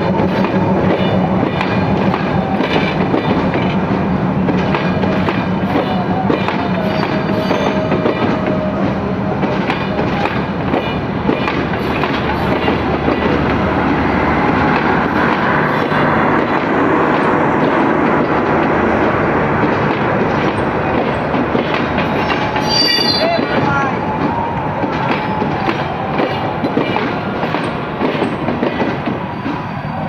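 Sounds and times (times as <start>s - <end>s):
wheels clattering on rails: 0.0s - 29.7s
train rumbling past: 0.0s - 30.0s.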